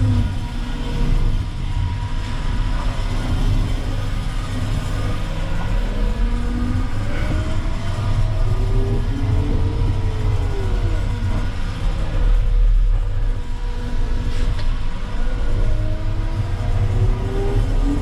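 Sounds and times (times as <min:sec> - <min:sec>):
faint whining tones: 0:00.0 - 0:18.0.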